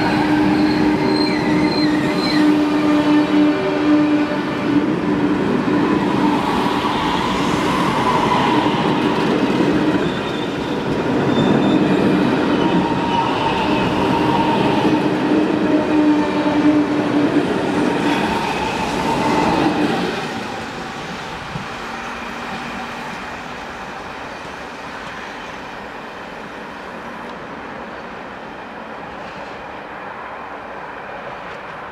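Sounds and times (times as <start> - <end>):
electric train whine: 0.0 - 31.9.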